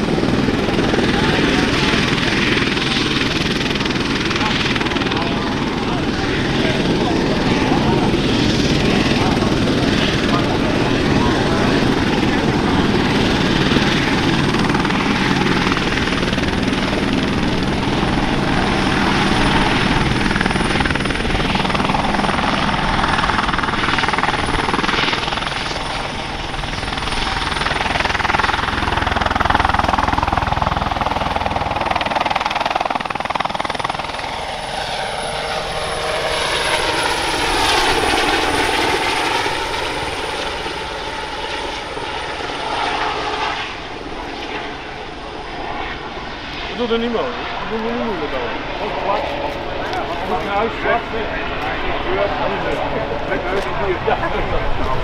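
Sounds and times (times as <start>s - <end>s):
helicopter rotor noise: 0.0s - 55.0s
helicopter turbine whine: 0.0s - 55.0s.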